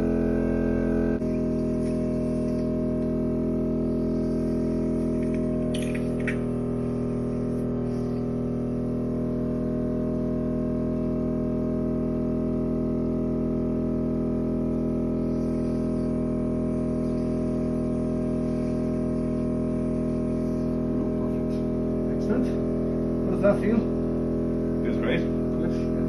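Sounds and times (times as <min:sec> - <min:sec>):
suction machine humming: 0:00.0 - 0:26.0.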